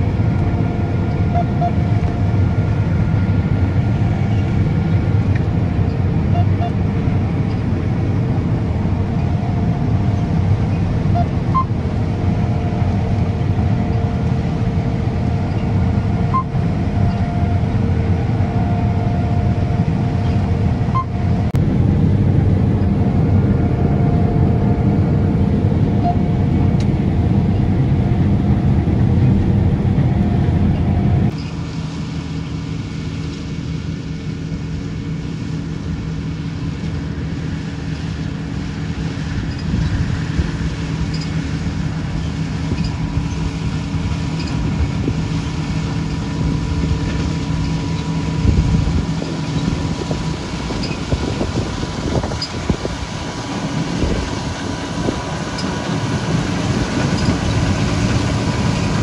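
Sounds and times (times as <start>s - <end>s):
combine harvester diesel rumble: 0.0s - 59.0s
steady machine whine: 0.0s - 59.0s.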